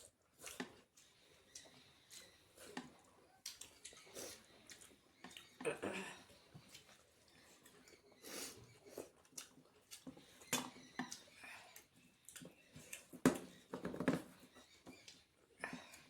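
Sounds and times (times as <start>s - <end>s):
wet chewing: 0.0s - 13.6s.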